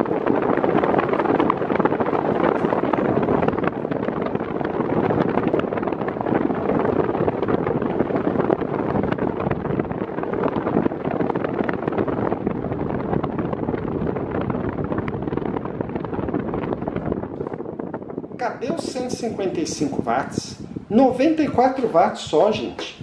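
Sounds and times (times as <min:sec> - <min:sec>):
electric fan blowing air: 0:00.0 - 0:23.0.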